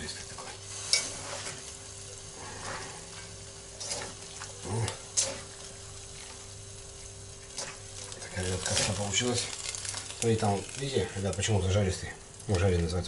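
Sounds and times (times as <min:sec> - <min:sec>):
noodles sizzling: 0:00.0 - 0:13.0.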